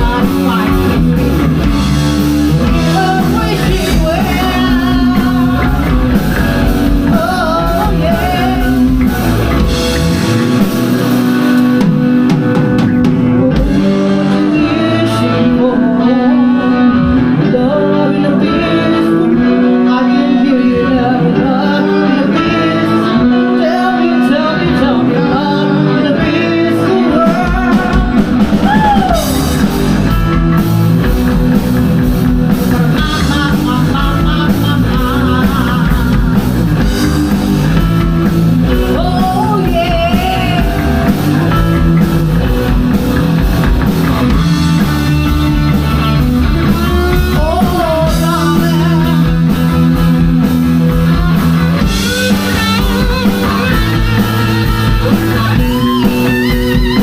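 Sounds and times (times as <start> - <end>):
person singing: 0.0 - 1.8, 2.5 - 10.2, 13.1 - 30.3, 32.5 - 42.3, 44.3 - 57.0
bass guitar: 0.0 - 57.0
drum kit: 0.0 - 57.0
electric guitar: 0.0 - 57.0.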